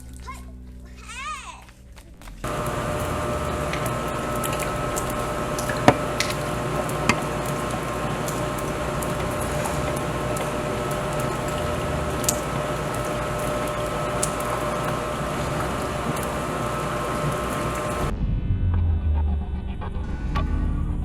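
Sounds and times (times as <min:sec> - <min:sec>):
machine hum with tones: 0:02.4 - 0:21.0.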